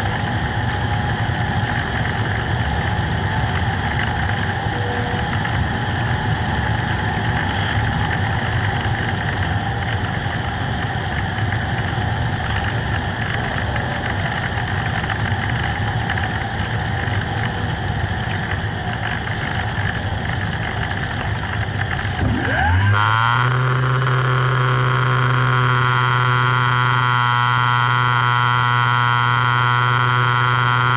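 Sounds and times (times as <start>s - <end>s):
model plane motor: 0.0s - 30.9s.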